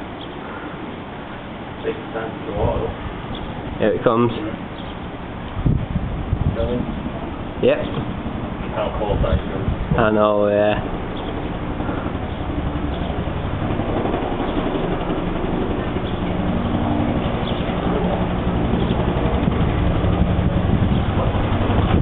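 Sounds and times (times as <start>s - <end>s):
helicopter rotor and turbine drone: 0.0s - 22.0s.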